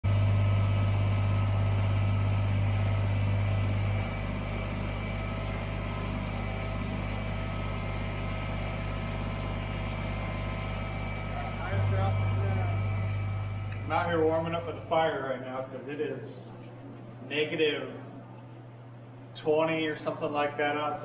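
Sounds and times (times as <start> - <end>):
low machine hum: 0.0 - 21.0
faint whining tones: 0.2 - 19.5.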